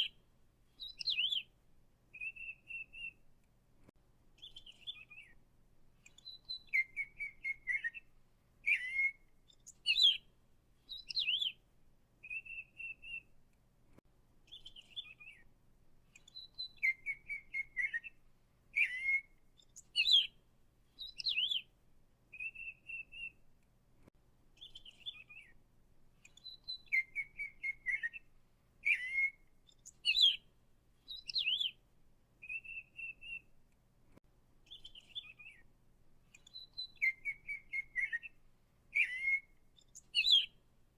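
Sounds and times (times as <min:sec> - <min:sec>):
songbird singing: 0:00.0 - 0:03.4, 0:04.3 - 0:13.6, 0:14.4 - 0:23.5, 0:24.5 - 0:33.6, 0:34.6 - 0:40.7.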